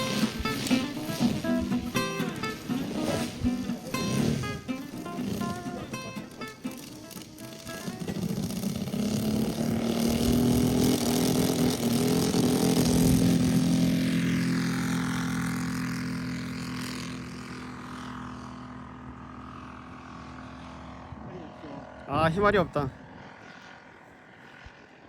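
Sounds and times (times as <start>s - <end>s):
model aircraft engine running: 0.0s - 25.0s.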